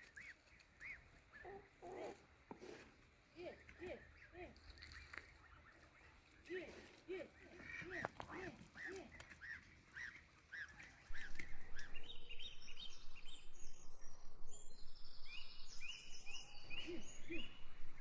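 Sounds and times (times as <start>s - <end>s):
birds chirping: 0.0s - 18.0s
low bird calls: 0.0s - 18.0s.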